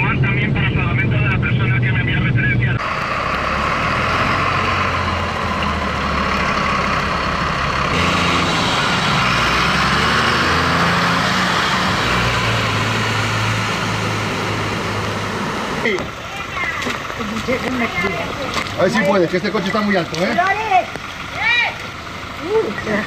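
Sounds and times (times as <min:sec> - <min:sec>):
fire engine running: 0:00.0 - 0:23.0.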